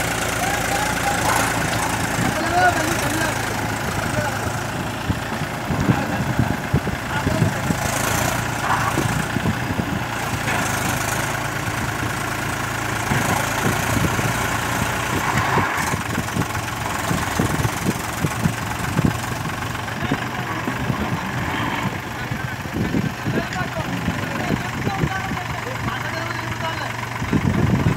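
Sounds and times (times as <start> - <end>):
tractor diesel engine straining: 0.0 - 27.9.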